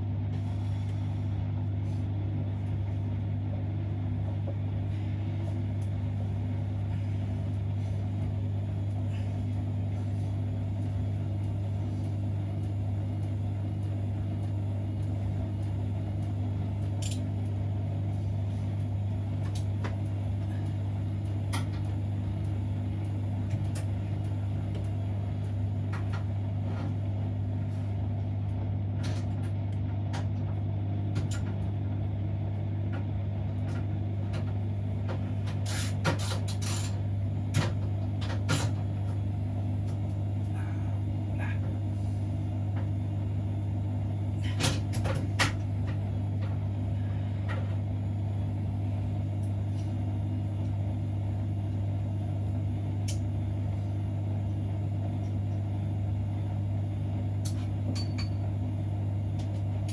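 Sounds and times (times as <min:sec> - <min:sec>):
washing machine humming: 0:00.0 - 0:59.9.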